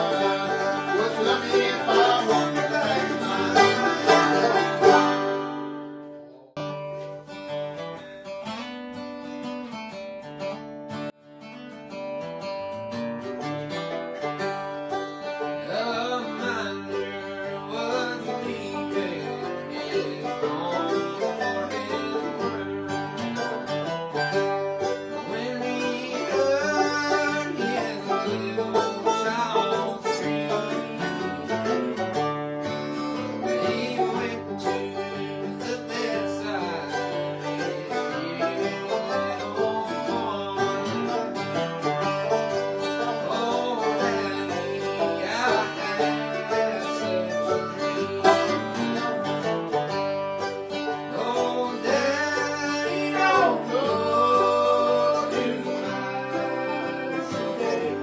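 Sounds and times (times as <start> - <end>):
banjo picking: 0.0 - 58.0
guitar picking: 0.0 - 58.0.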